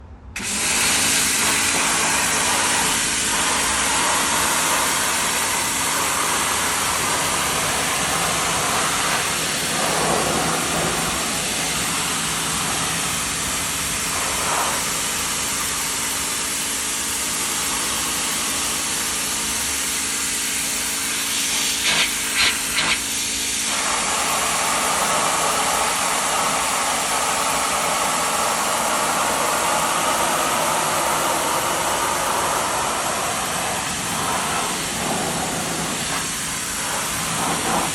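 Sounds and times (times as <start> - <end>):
pressure washer water jet hissing: 0.4 - 37.9
pump motor humming: 0.4 - 37.9.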